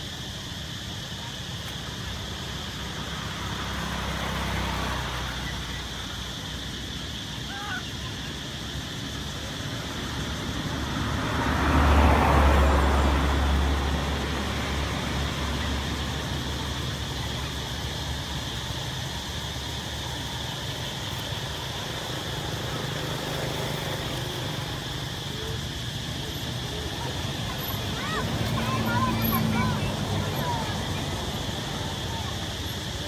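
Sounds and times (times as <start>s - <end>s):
low hum of traffic: 0.0s - 33.0s
vehicle passing by: 2.3s - 6.8s, 9.0s - 33.0s.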